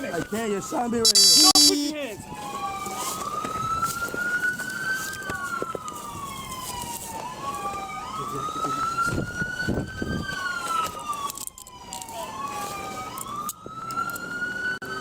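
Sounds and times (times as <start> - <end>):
emergency siren wailing: 0.4 - 15.0.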